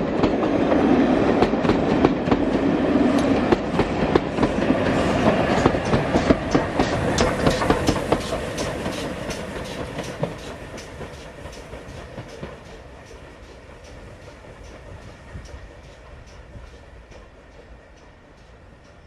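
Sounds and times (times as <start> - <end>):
train passing: 0.0 - 19.0
train wheels clicking over rail joints: 0.0 - 19.0.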